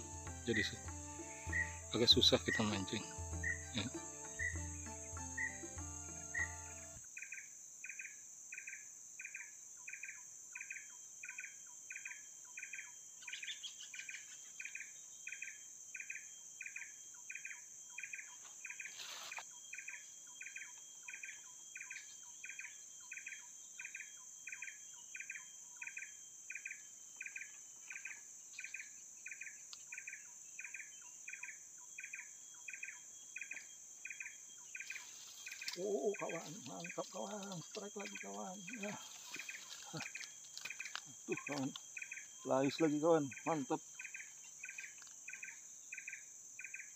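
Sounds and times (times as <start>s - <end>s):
insect chirping: 0.0s - 46.9s
insects droning: 0.0s - 46.9s.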